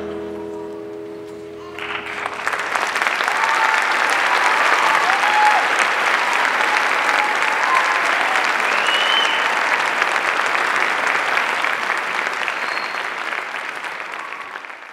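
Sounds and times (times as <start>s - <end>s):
audience applauding: 1.6s - 14.9s
short calls from audience: 1.6s - 14.9s.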